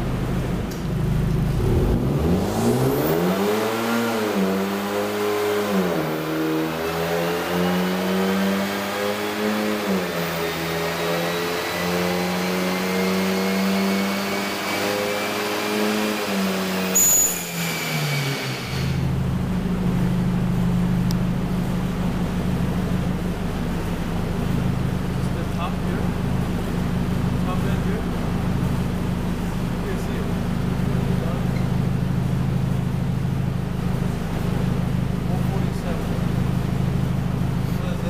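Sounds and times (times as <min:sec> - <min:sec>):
car engine at full throttle: 0:00.0 - 0:38.0.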